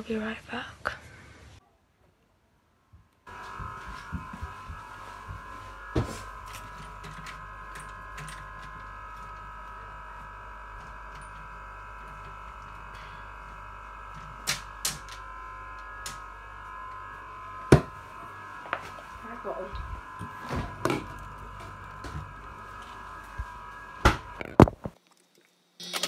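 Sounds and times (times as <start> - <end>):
steady high hum: 3.2 - 25.0
low rumble: 3.3 - 24.9.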